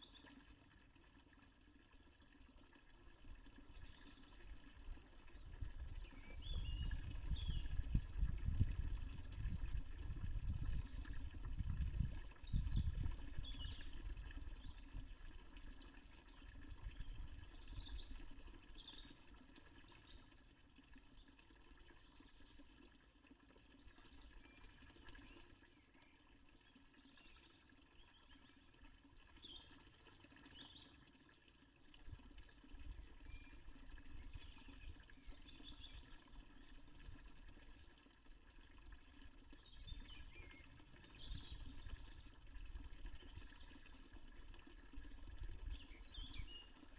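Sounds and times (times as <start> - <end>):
fountain water running: 0.0 - 46.9.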